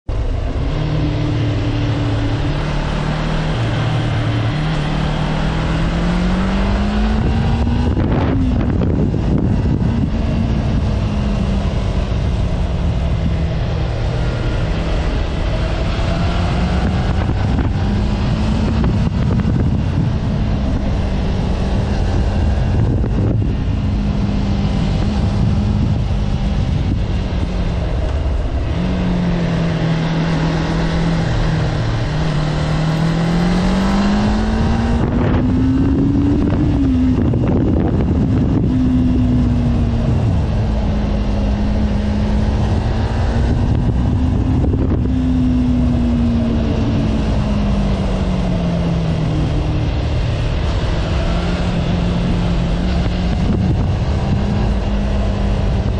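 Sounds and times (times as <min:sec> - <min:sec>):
motorcycle engine cruising: 0:00.0 - 0:55.9
wind rushing on microphone: 0:00.1 - 0:55.9.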